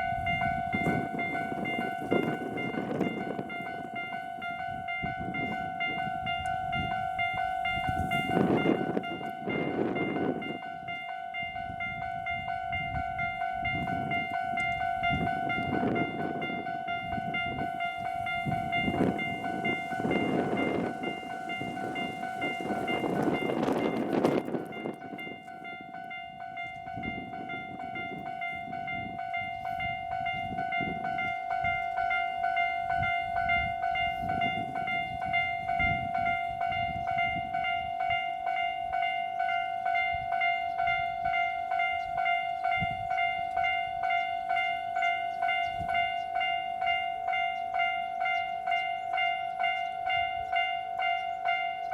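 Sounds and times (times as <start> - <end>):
level crossing alarm ringing: 0.0 - 51.9
train passing: 0.0 - 51.9
wind buffeting microphone: 0.0 - 51.9.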